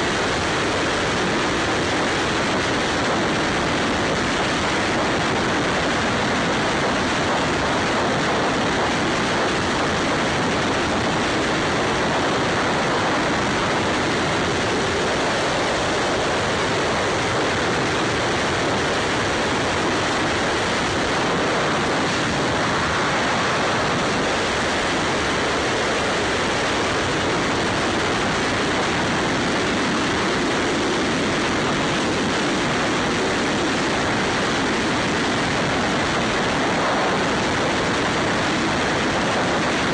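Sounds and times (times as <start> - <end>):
motorcycle road noise: 0.0 - 39.9
wind rush on microphone: 0.0 - 39.9.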